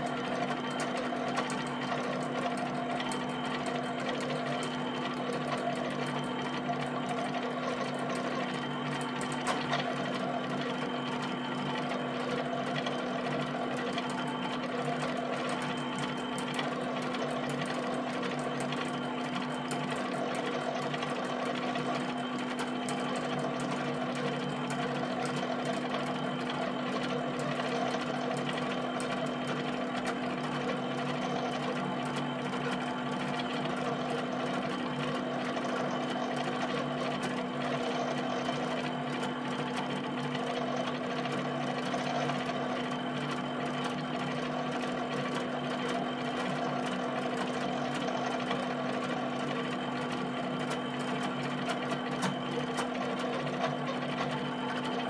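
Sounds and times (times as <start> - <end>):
motors humming: 0.0 - 55.0.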